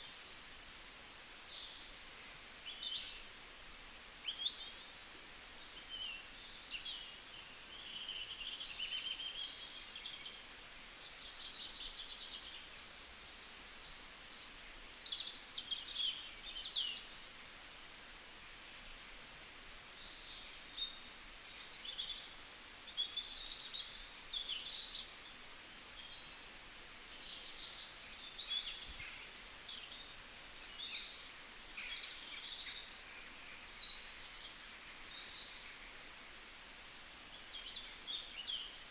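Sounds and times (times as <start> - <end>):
small birds chirping and trilling: 0.0 - 36.6, 37.2 - 38.9
faint steady hiss: 0.0 - 38.9.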